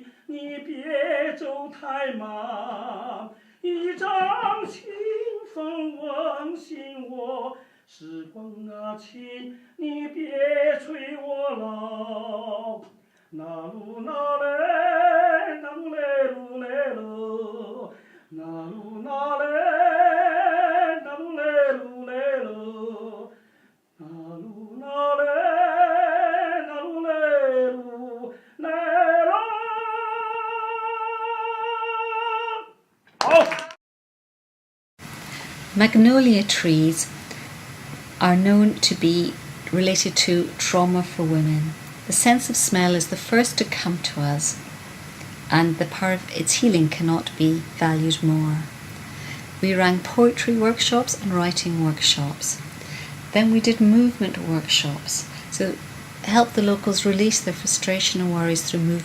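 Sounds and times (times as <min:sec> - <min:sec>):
person singing with vibrato: 0:00.0 - 0:33.5, 0:35.0 - 0:59.0.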